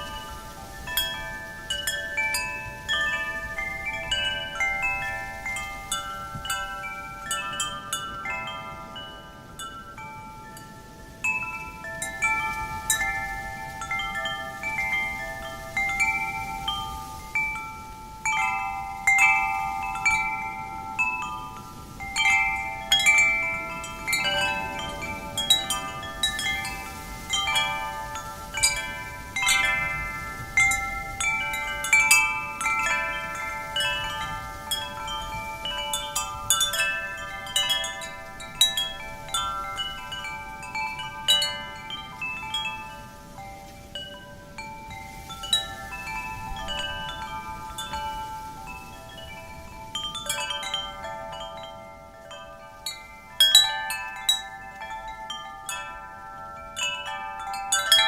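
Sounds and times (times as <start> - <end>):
soft wind: 0.0 - 58.0
wind chimes jangling: 0.0 - 58.0.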